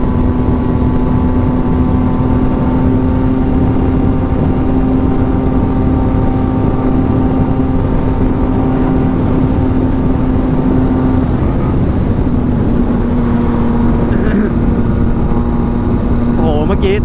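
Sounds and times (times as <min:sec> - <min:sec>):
motorcycle engine running fast: 0:00.0 - 0:17.0
wind rush: 0:00.0 - 0:17.0.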